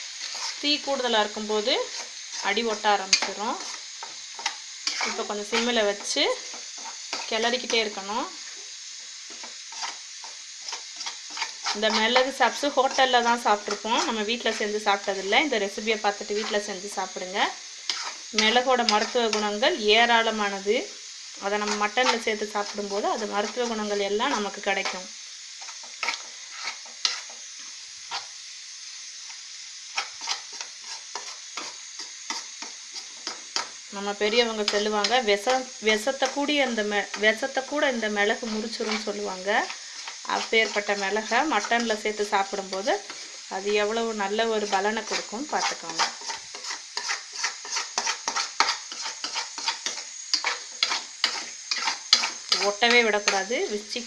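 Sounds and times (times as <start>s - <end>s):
meat sizzling in a pan: 0.0s - 54.0s
spoon scraping and knocking a pan: 0.1s - 0.9s, 1.6s - 7.9s, 9.2s - 14.8s, 16.3s - 16.6s, 17.8s - 19.6s, 21.6s - 25.0s, 25.6s - 28.3s, 29.3s - 37.4s, 38.4s - 43.9s, 44.6s - 53.5s.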